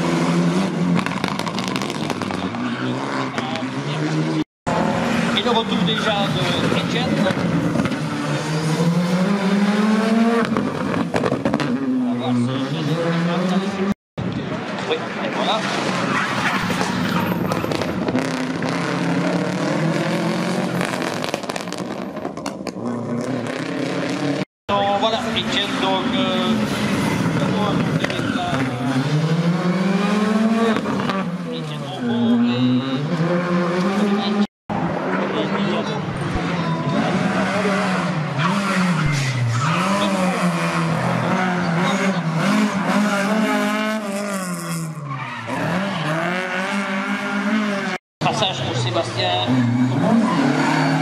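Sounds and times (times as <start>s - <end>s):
rally car engine revving: 0.0s - 14.0s, 14.6s - 51.0s.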